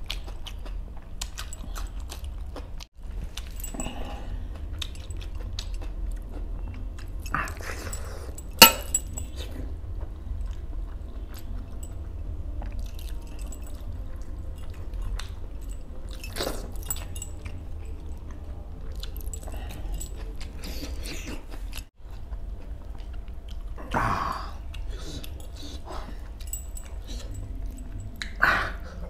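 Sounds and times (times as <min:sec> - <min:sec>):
man chewing with wet mouth sounds: 0:00.0 - 0:29.0
steady low hum: 0:00.0 - 0:29.0.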